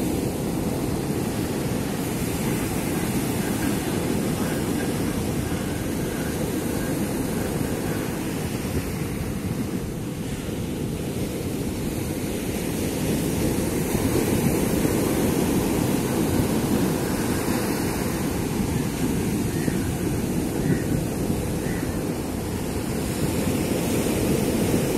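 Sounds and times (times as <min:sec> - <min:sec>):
surf breaking on beach: 0:00.0 - 0:24.9
wind buffeting microphone: 0:00.0 - 0:24.9.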